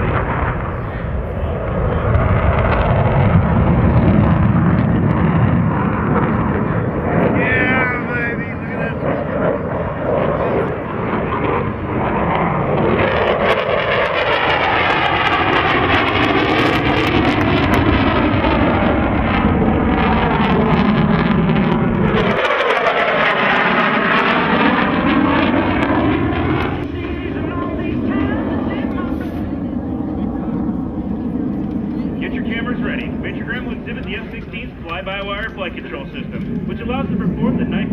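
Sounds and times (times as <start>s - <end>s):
fighter jet flying past: 0.0s - 37.9s.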